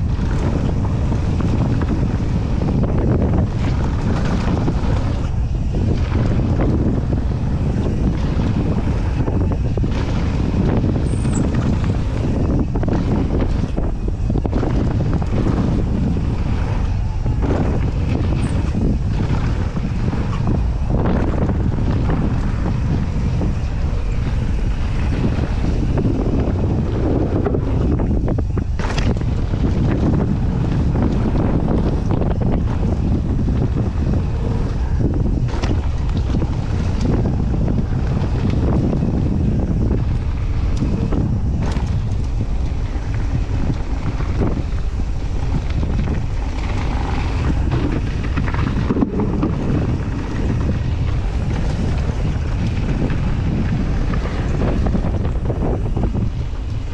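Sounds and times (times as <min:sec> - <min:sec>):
bike rattling: 0:00.0 - 0:56.9
sharp clacks over bumps: 0:00.0 - 0:56.9
tyres rumbling on dirt: 0:00.0 - 0:56.9
wind buffeting microphone: 0:00.0 - 0:56.9.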